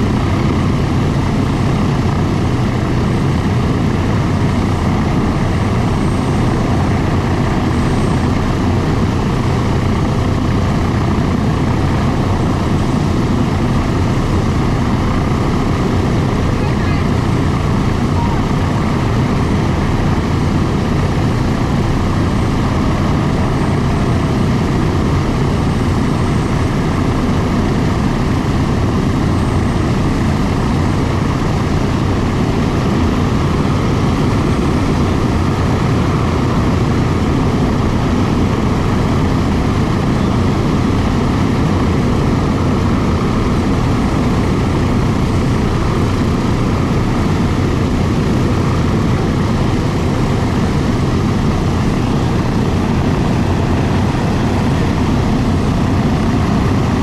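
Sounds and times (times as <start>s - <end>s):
propeller engines rumbling: 0.0s - 57.0s.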